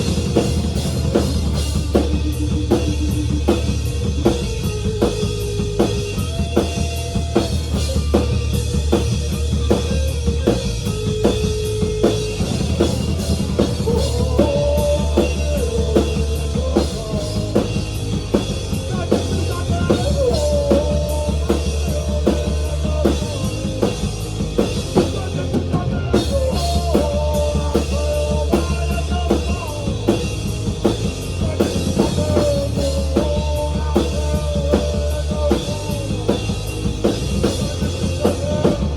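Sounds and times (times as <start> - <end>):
rock music: 0.0 - 38.9.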